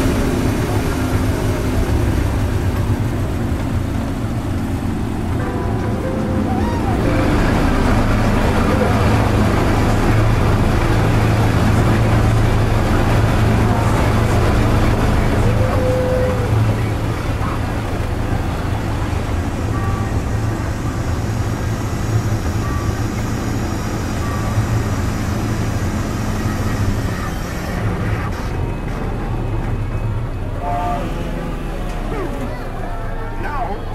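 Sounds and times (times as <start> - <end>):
crowd chatter: 0.0 - 33.9
ride train rumbling on track: 0.0 - 33.9.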